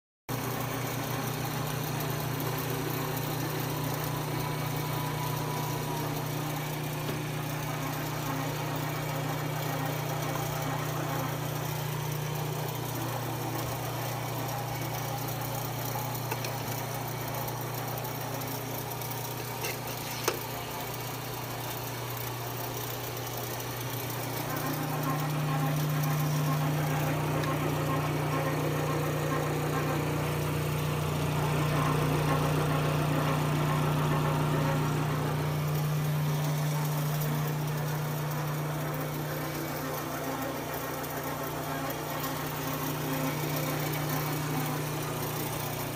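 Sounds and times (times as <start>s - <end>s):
quilting machine humming: 0.3s - 45.9s.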